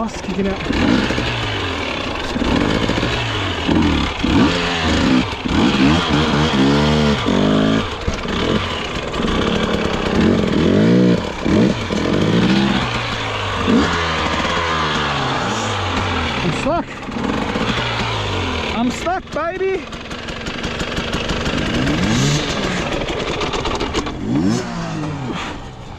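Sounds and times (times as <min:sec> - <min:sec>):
dirt bike engine revving: 0:00.0 - 0:25.9.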